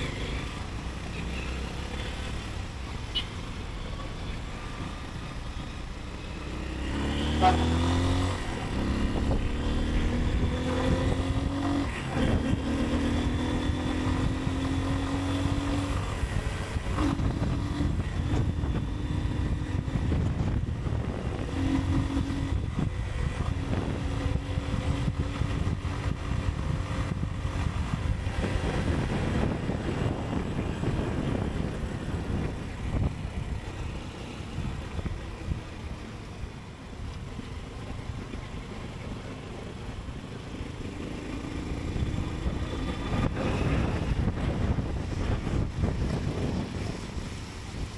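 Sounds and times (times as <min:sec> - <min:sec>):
road rumble: 0:00.0 - 0:47.9
wind: 0:00.0 - 0:47.9
motorcycle engine accelerating: 0:06.4 - 0:36.4, 0:37.6 - 0:47.9.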